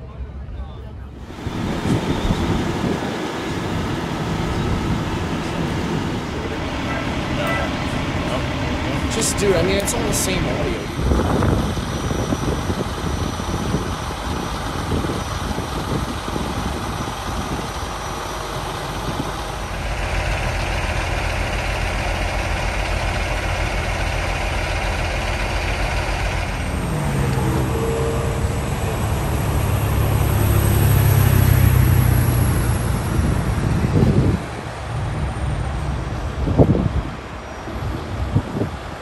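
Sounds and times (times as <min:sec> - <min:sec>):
traffic rumble: 0:00.0 - 0:39.0
wind: 0:00.0 - 0:39.0
diesel engine idling: 0:00.9 - 0:39.0.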